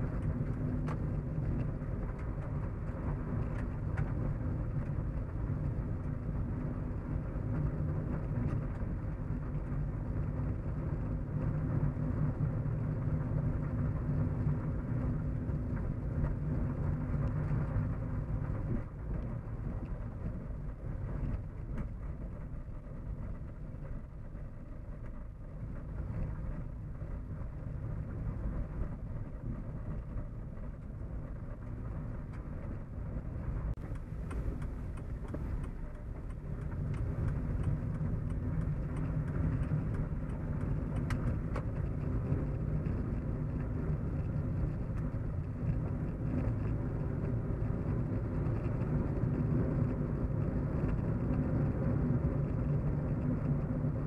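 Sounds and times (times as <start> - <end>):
car engine and tyre drone: 0.0 - 54.0.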